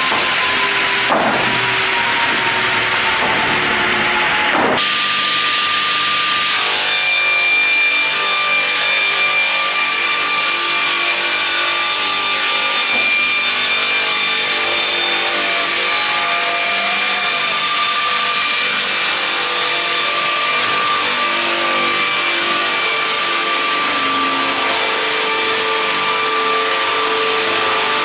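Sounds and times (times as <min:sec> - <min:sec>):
saw cutting wood: 0:00.0 - 0:28.0.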